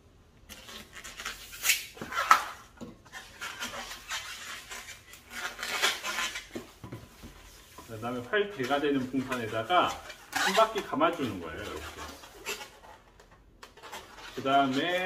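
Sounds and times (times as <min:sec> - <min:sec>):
balloon squeaking and rubbing: 0:00.5 - 0:15.0.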